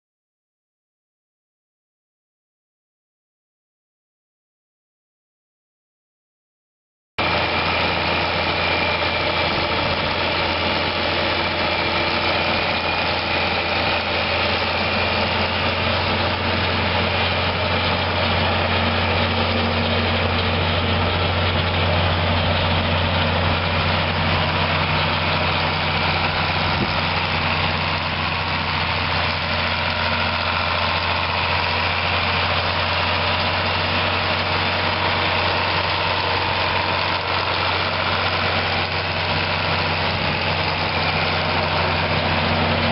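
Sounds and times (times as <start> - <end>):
tractor diesel engine running: 7.2 - 42.9.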